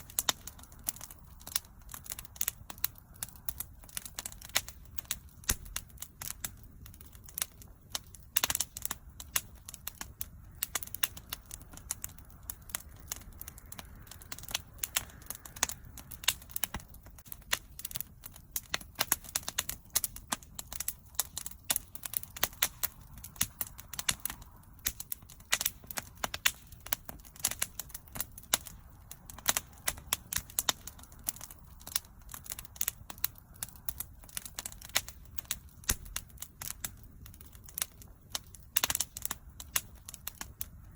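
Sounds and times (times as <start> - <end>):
low rumble of flame: 0.0 - 40.9
wood fire crackling: 0.0 - 40.9.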